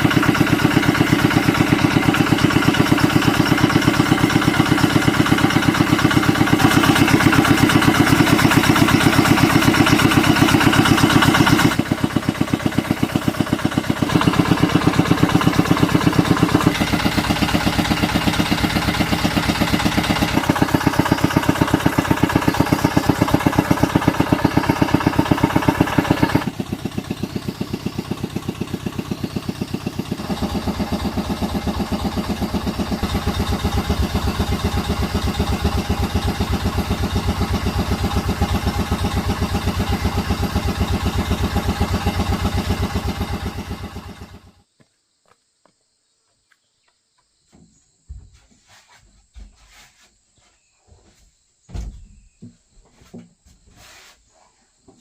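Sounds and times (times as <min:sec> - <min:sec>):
motor running with fast pulse: 0:00.0 - 0:44.6.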